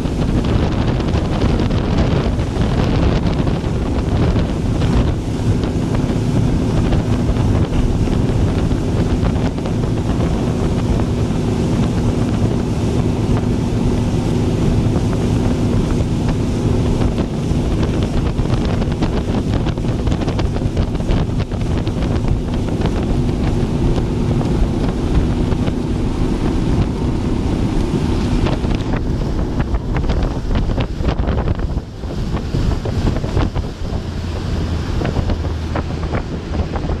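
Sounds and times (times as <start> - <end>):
boat engine hum: 0.0 - 37.0
water rushing along hull: 0.0 - 37.0
wind buffeting microphone: 0.0 - 37.0.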